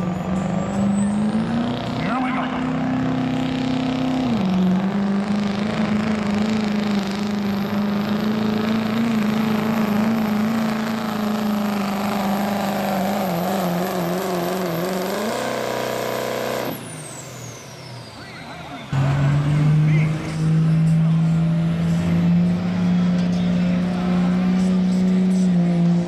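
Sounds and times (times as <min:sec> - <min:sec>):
diesel truck engine under load: 0:00.0 - 0:26.0.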